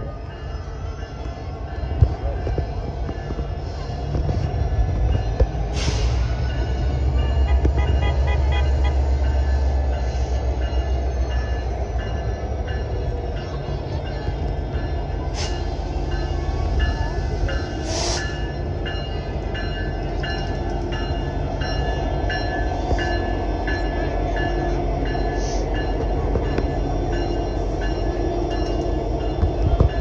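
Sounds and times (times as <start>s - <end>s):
crossing bell dinging: 0.0s - 30.0s
train rumbling past: 0.0s - 30.0s.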